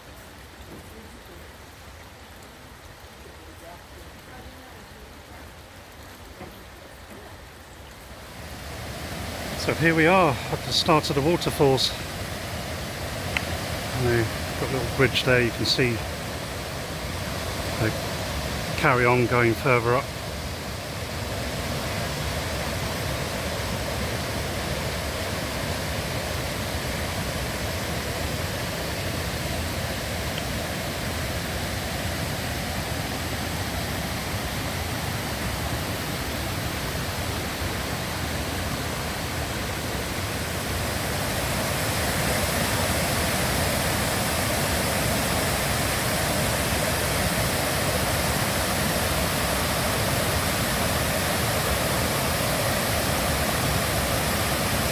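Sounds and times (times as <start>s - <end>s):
rush of falling water: 0.0s - 54.9s.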